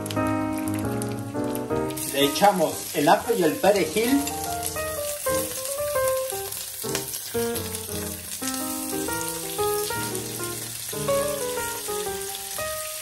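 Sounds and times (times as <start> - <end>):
background music: 0.0 - 13.0
clams sizzling on grill pan: 0.0 - 13.0.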